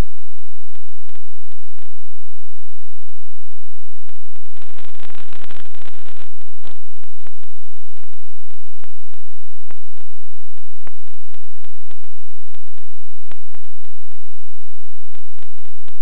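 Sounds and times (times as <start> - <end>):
static hiss and crackle: 0.0 - 16.0.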